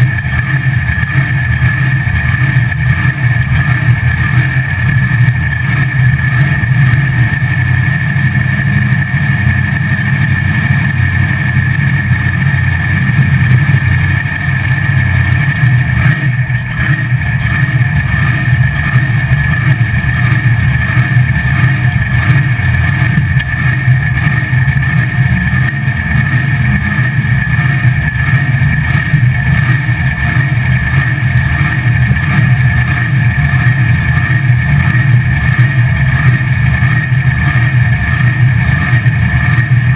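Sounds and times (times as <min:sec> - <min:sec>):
loud truck engine running: 0:00.0 - 0:39.9.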